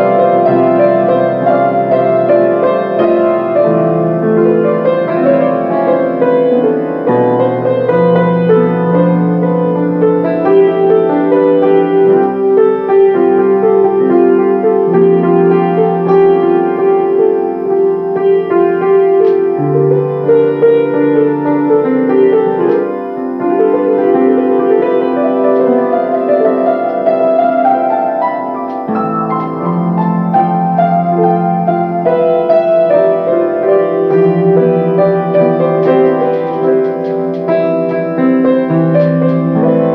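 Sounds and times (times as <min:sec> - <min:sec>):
grand piano piece: 0:00.0 - 0:39.9.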